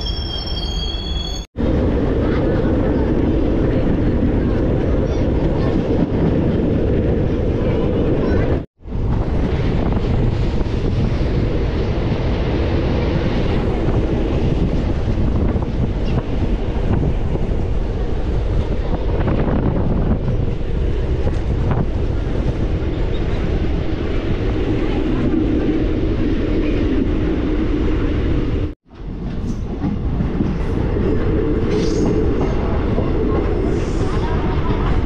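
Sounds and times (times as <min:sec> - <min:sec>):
train rumbling along track: 0:00.0 - 0:35.0.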